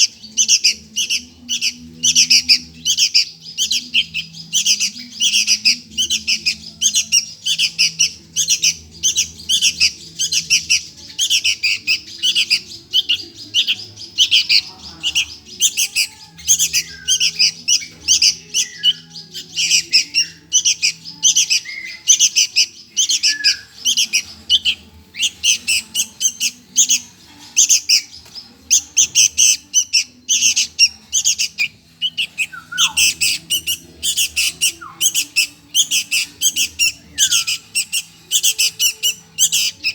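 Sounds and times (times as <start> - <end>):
nestling begging chirps: 0.0 - 39.9.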